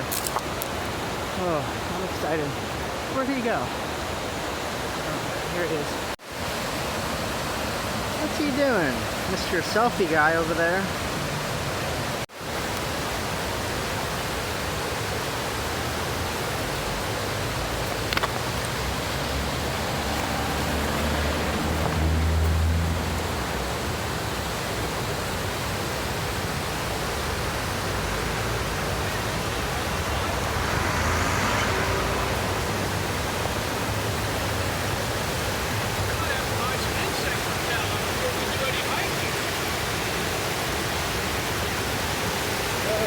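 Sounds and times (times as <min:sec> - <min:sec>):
river rushing: 0:00.0 - 0:43.0.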